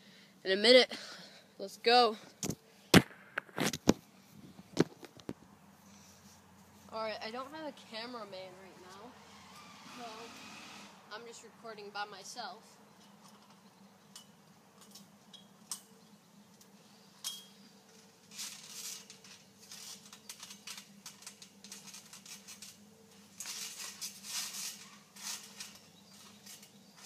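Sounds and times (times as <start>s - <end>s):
trampoline springs creaking and clinking: 4.6s - 27.0s.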